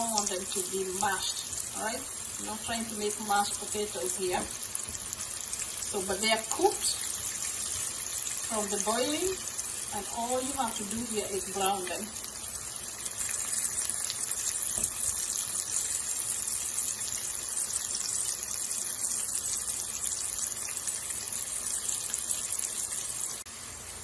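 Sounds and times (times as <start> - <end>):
potatoes frying in hot oil: 0.0 - 24.0.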